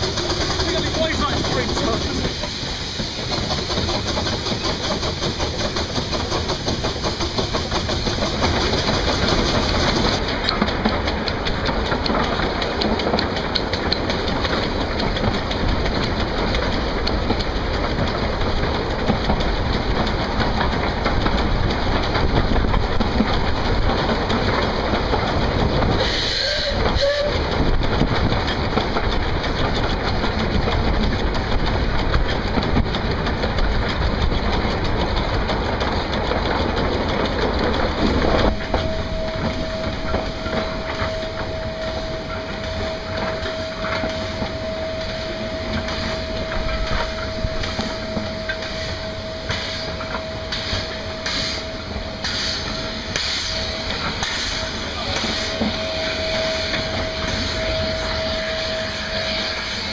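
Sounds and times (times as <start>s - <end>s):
steam locomotive running: 0.0s - 59.9s
wheels running: 0.0s - 59.9s.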